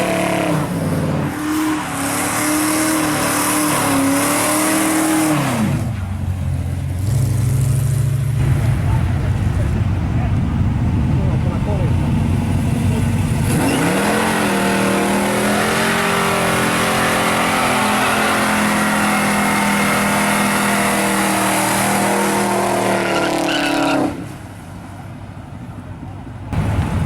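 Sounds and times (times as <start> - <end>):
car engine revving: 0.0 - 24.3.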